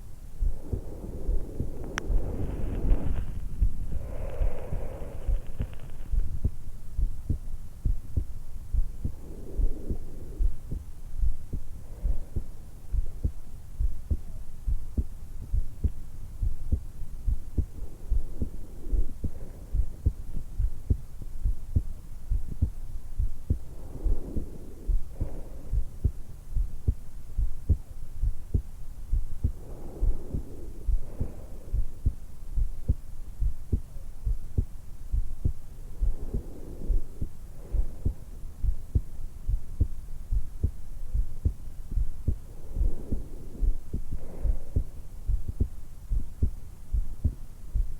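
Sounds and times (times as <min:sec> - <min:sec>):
low heart thumps: 0:00.0 - 0:47.9
soft breaths: 0:00.0 - 0:47.9.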